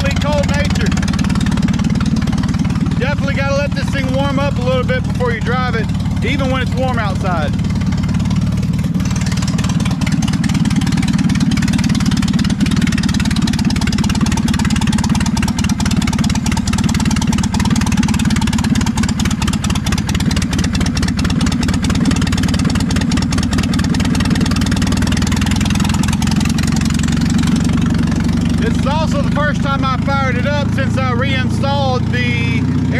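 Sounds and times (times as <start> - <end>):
engine idling: 0.0 - 32.9.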